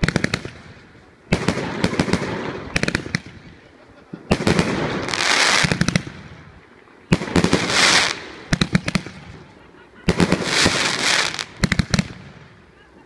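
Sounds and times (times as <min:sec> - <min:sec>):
firework bangs: 0:00.0 - 0:03.6, 0:04.3 - 0:06.5, 0:07.1 - 0:12.6.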